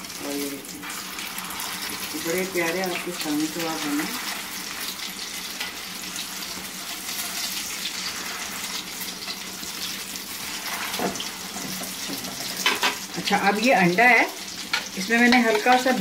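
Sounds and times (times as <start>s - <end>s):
kebabs sizzling in hot oil: 0.0s - 16.0s.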